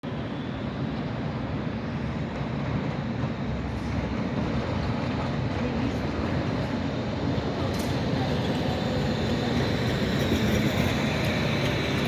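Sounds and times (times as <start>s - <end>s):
electric tram rumbling: 0.1s - 12.0s.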